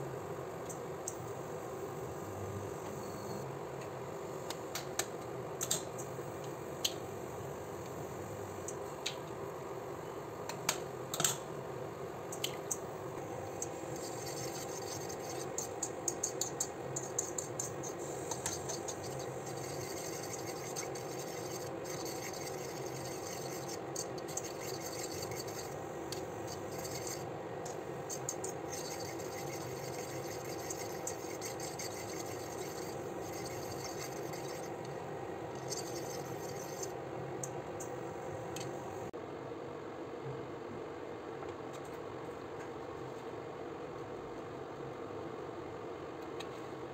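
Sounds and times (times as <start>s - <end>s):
background hum: 0.0s - 39.1s.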